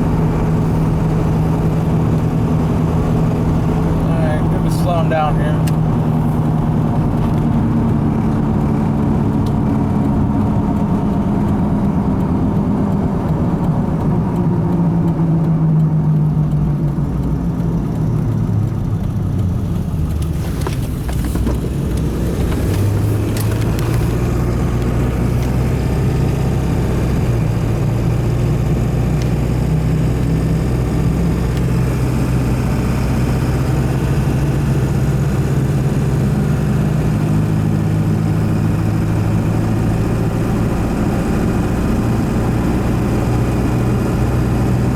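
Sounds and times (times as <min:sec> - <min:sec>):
diesel truck engine running: 0:00.0 - 0:44.9
tyre and road noise: 0:00.0 - 0:44.9.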